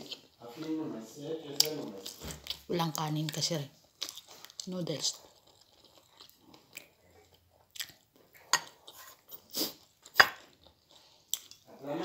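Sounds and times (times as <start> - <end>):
person chewing noodles: 1.5 - 12.0.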